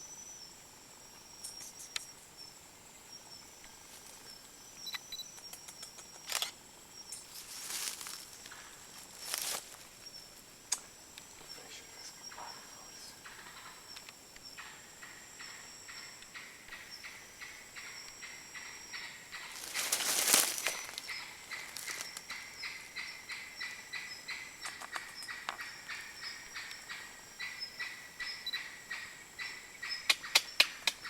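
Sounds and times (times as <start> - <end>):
high insect trill: 0.0 - 31.0
short chirping calls: 4.2 - 8.2, 9.3 - 31.0.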